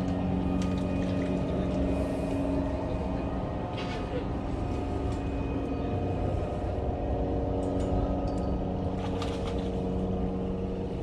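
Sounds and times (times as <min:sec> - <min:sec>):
motor droning hum: 0:00.0 - 0:11.0.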